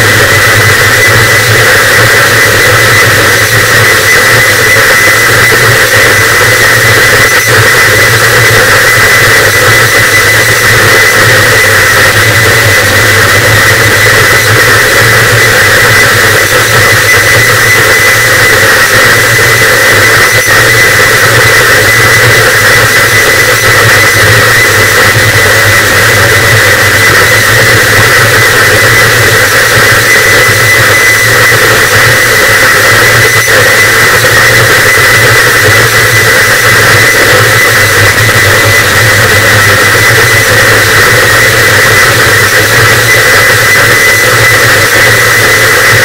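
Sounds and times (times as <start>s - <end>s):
distorted static noise: 0.0s - 46.0s
steady high tone: 0.0s - 46.0s.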